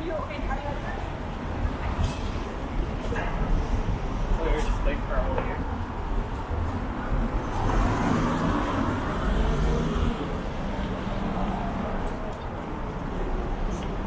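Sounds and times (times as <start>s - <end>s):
traffic rumbling past: 0.0s - 14.0s.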